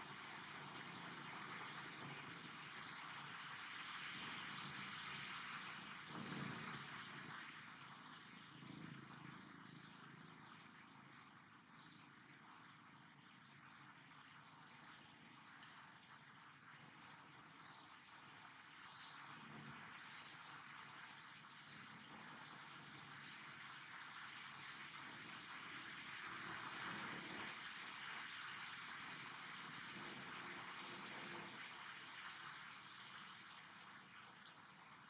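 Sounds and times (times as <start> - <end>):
faint forest background hiss: 0.0 - 35.0.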